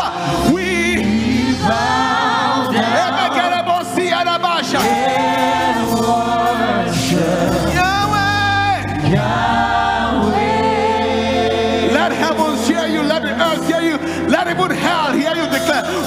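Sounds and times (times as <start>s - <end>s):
bass notes: 0.0s - 15.6s
gospel choir singing: 0.0s - 16.0s.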